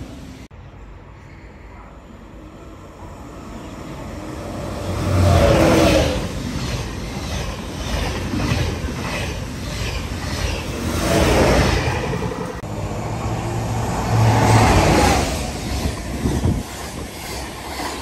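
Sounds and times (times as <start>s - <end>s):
high-speed train passing: 0.0s - 18.0s.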